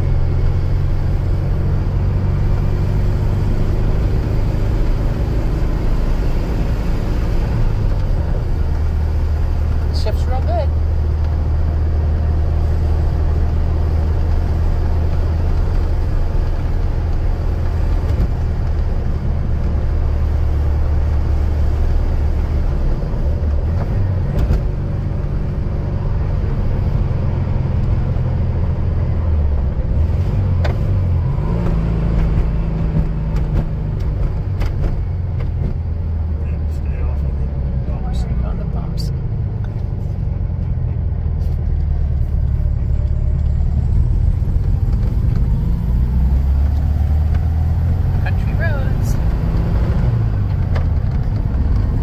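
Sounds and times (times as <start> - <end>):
car engine running while driving: 0.0 - 52.0.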